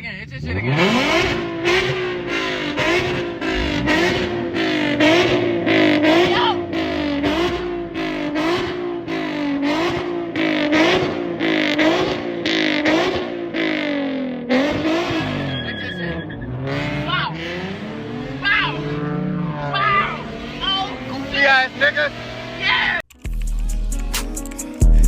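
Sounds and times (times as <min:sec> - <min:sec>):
car engine revving hard: 0:00.4 - 0:23.0.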